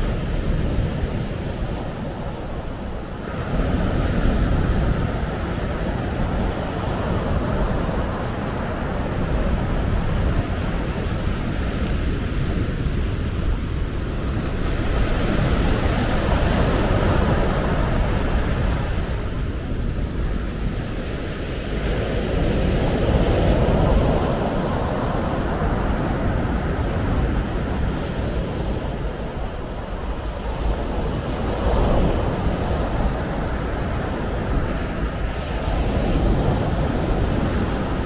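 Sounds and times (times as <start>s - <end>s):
wind rumbling on microphone: 0.0s - 38.0s.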